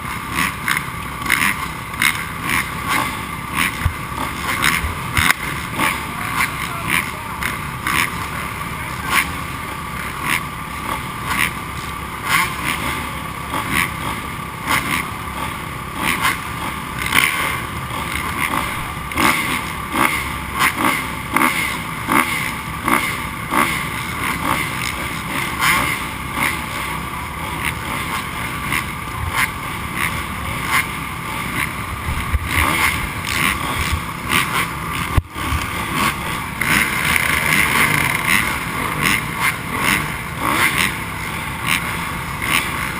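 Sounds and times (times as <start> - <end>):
dirt bike engines revving: 0.0 - 42.9.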